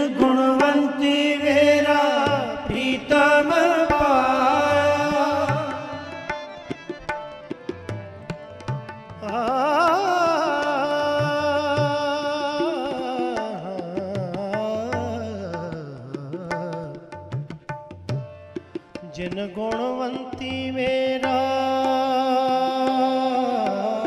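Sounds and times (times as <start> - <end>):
harmoniums playing: 0.0 - 24.0
tabla playing: 0.0 - 24.0.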